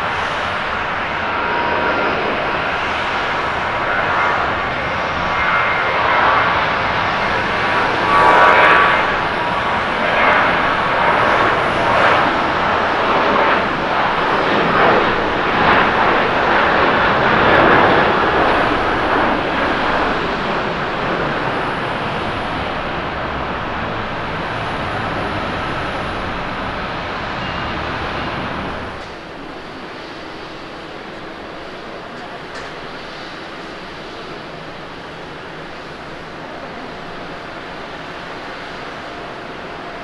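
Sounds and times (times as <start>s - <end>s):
jet engines at takeoff: 0.0s - 40.0s.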